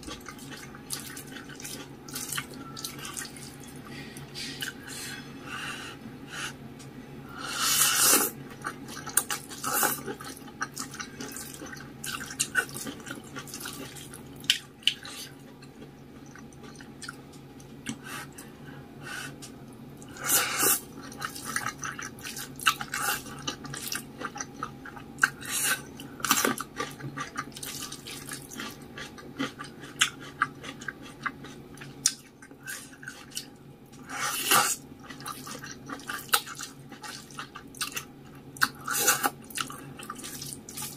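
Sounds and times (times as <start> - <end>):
wet chewing and mouth sounds: 0.0 - 3.9, 7.8 - 18.4, 19.4 - 40.9.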